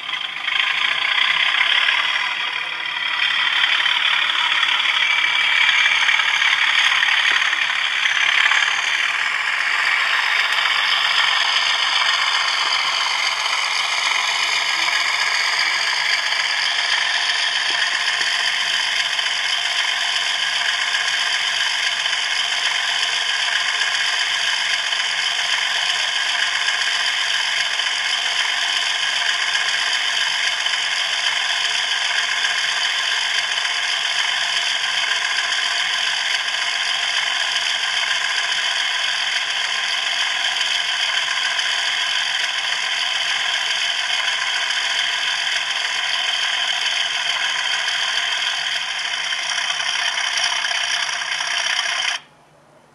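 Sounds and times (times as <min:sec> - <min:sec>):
model train motors whirring: 0:00.0 - 0:52.3.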